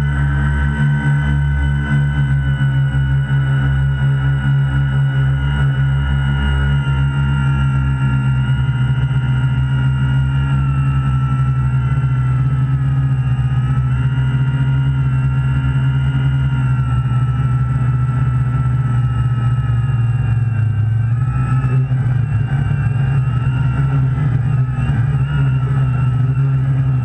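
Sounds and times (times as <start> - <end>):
quadcopter motors buzzing: 0.0 - 27.0.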